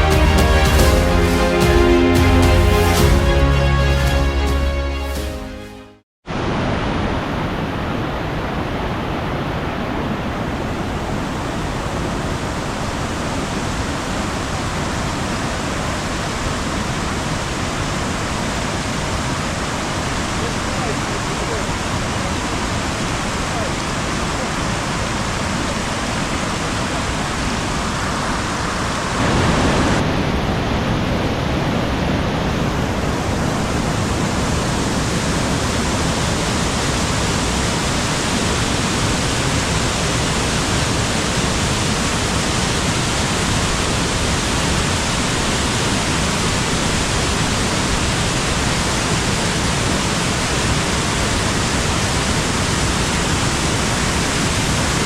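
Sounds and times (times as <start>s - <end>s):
waterfall rushing: 0.0s - 5.3s, 6.3s - 55.0s.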